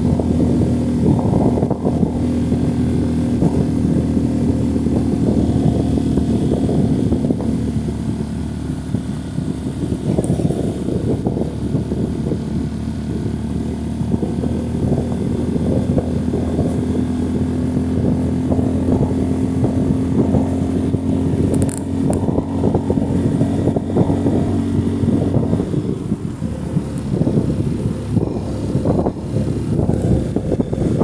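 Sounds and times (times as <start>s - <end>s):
motorcycle engine cruising: 0.0s - 31.0s
wind buffeting microphone: 0.0s - 31.0s.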